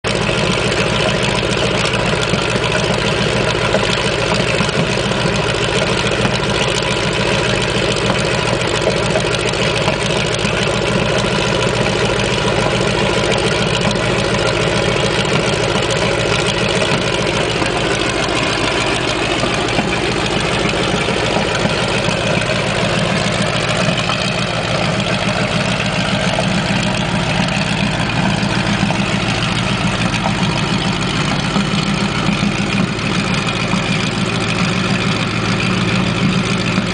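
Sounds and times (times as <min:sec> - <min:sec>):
tank radial engine running: 0:00.0 - 0:36.9.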